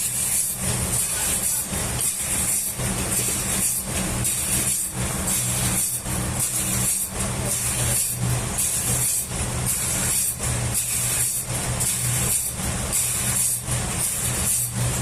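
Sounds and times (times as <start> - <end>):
sawmill machinery running: 0.0 - 15.0.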